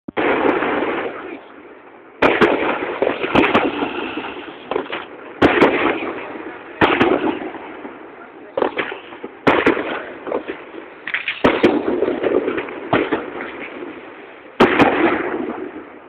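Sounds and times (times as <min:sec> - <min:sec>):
fireworks bangs: 0:00.1 - 0:16.0.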